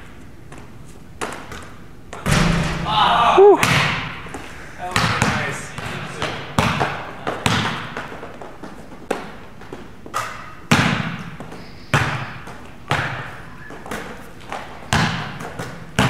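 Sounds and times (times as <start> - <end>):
basketballs bouncing on gym floor: 0.5 - 16.0.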